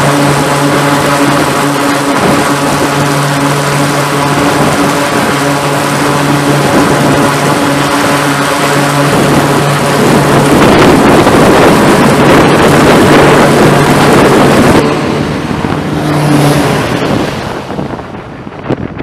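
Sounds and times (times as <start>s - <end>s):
turboprop engines droning: 0.0s - 19.0s
wind buffeting microphone: 0.0s - 19.0s.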